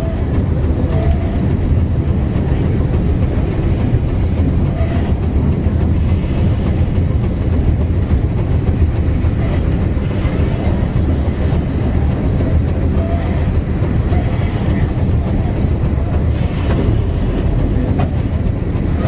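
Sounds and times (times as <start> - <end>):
trolley car rumbling on rails: 0.0 - 19.0.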